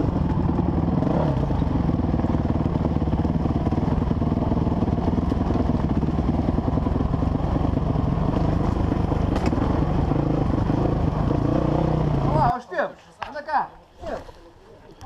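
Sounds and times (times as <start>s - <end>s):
dirt bike engine running: 0.0s - 12.5s.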